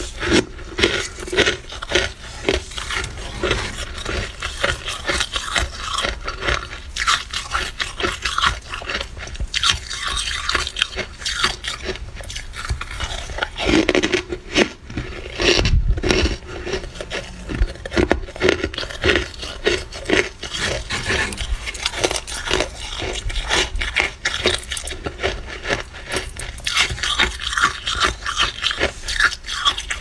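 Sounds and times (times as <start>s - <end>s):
freezer frost crunching and scraping: 0.0s - 30.0s.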